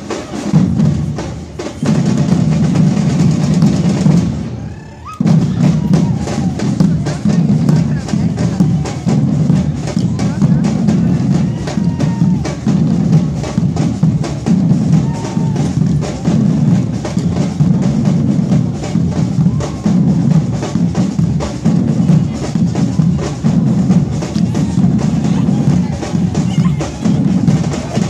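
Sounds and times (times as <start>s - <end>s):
bass and snare drums rhythm: 0.0s - 28.0s.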